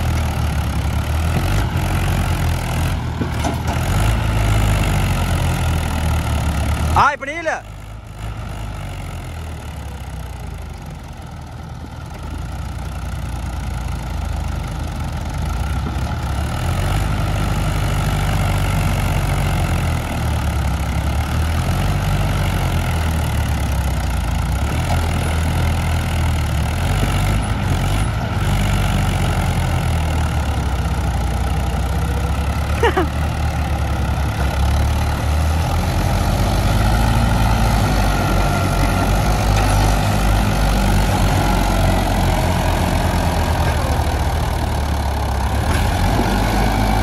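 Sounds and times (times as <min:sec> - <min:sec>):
tractor diesel engines under load: 0:00.0 - 0:47.0.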